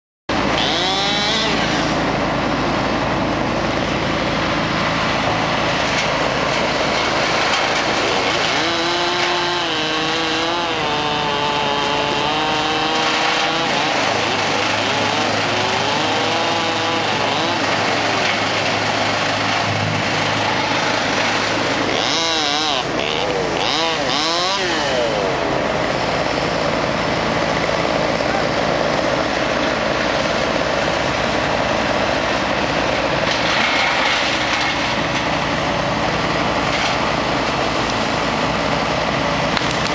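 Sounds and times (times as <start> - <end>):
machinery engines droning: 0.3 - 39.9.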